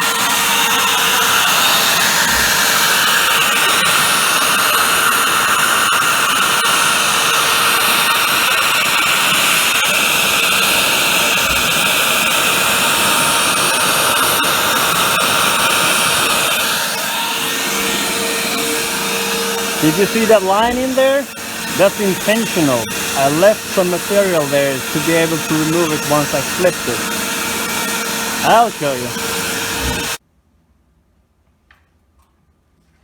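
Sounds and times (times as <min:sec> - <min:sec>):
router spindle milling metal: 0:00.0 - 0:30.2.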